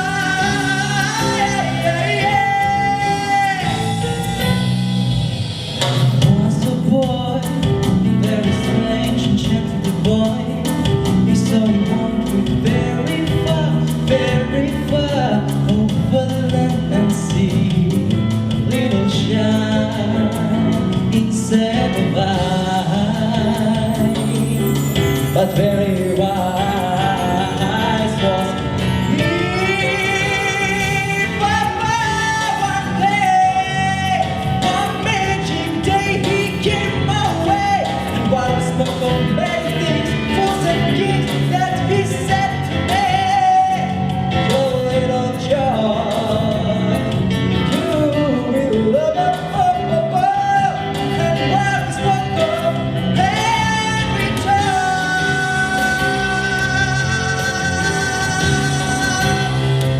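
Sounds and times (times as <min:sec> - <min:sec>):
instrumental accompaniment: 0:00.0 - 0:59.9.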